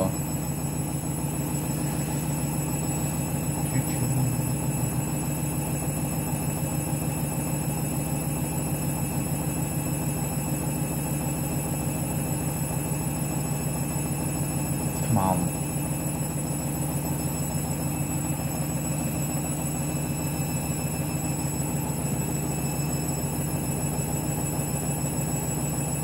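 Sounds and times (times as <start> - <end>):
washing machine spinning: 0.0 - 26.0.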